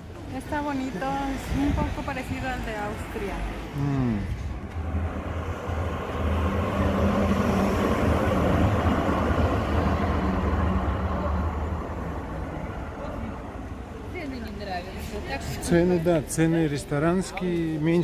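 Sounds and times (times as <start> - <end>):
tram wheels rumbling on rails: 0.0 - 15.8
tram electric hum: 0.0 - 16.0.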